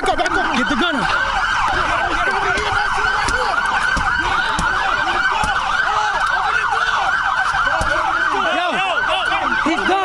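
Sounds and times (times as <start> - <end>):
police sirens yelping: 0.0 - 10.0.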